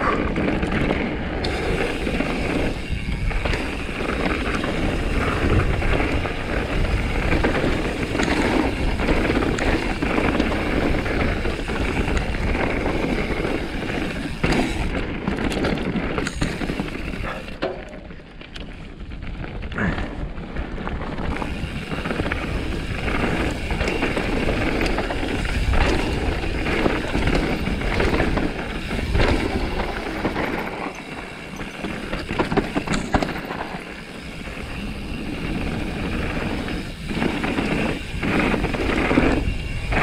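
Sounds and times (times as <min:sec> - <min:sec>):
bike knocking and rattling: 0:00.0 - 0:40.0
tyres rumbling over stones: 0:00.0 - 0:40.0.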